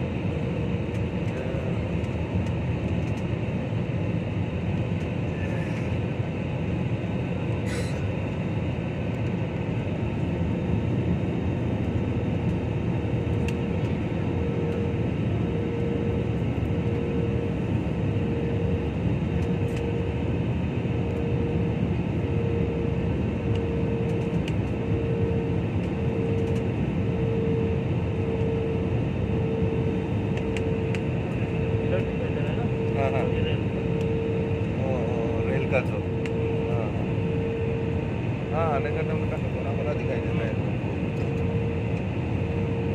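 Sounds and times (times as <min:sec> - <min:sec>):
jet airliner cabin roar: 0:00.0 - 0:42.9
throbbing humming tone: 0:00.0 - 0:42.9.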